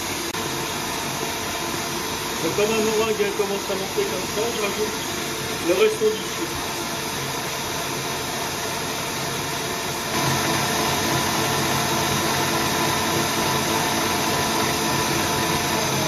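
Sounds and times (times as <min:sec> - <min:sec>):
stand mixer motor hum: 0:00.0 - 0:16.0
whisk whirring in bowl: 0:00.0 - 0:16.0.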